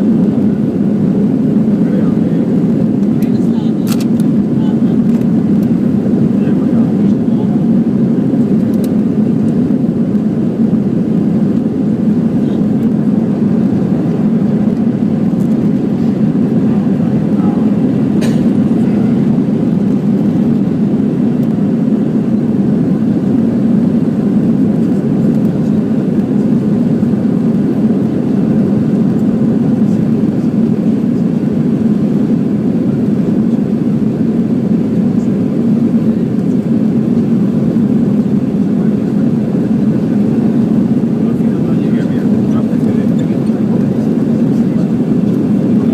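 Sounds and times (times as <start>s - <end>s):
airliner cabin engine roar: 0.0s - 45.9s.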